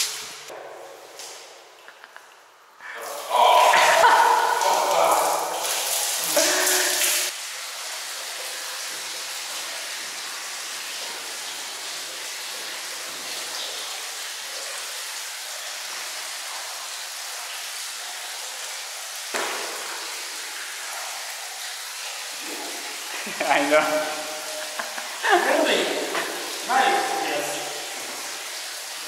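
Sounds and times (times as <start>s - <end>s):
running water hiss: 0.0s - 1.5s, 2.8s - 29.0s.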